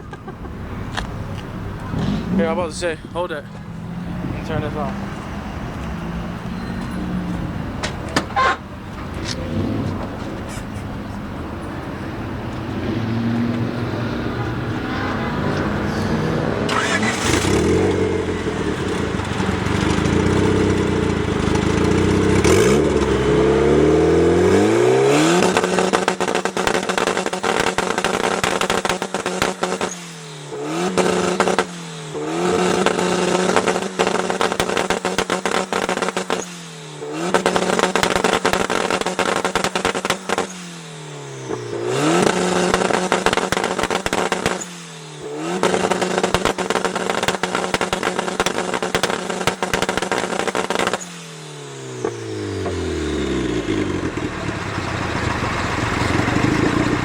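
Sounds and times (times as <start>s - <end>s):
exhaust crackling and popping: 0.0s - 40.6s, 41.4s - 51.0s, 51.9s - 57.0s
car engine revving: 0.0s - 57.0s.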